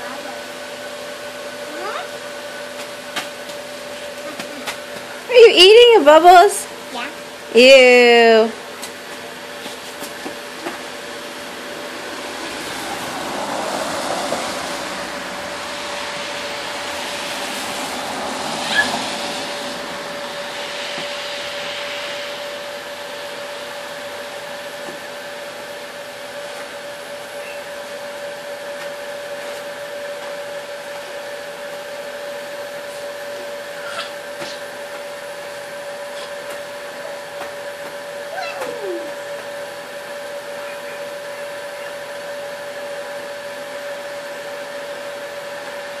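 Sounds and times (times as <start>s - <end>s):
small fan motor whine: 0.0s - 46.0s.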